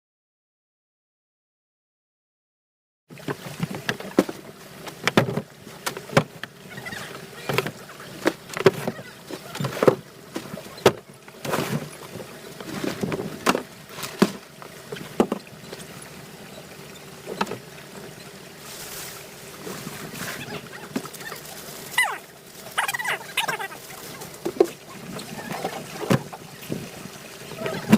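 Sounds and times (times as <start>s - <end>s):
faint boat engine hum: 3.1s - 27.9s.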